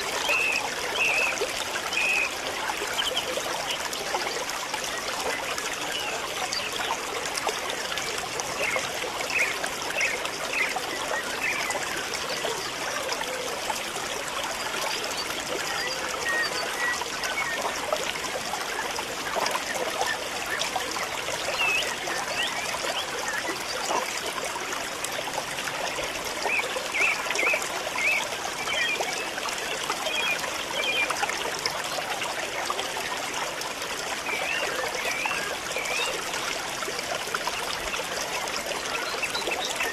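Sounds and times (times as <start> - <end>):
rushing trickling water: 0.0 - 39.9.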